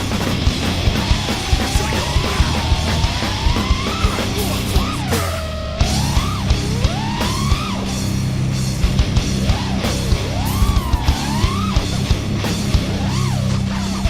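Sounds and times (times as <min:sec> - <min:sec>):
distorted electric guitar: 0:00.0 - 0:14.0
fast drums: 0:00.0 - 0:14.0
heavy metal music: 0:00.0 - 0:14.0.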